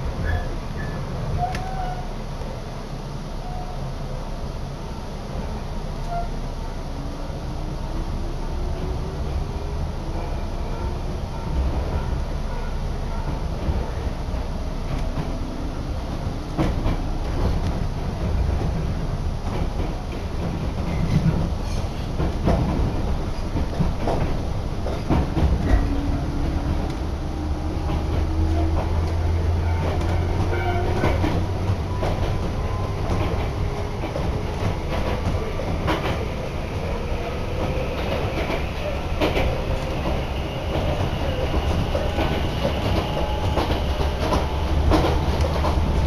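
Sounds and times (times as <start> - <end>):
train interior rumble: 0.0 - 46.0.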